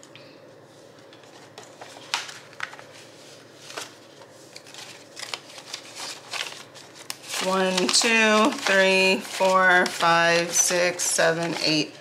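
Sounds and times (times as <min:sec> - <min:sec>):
paper envelopes and bills rustling: 0:00.8 - 0:12.0.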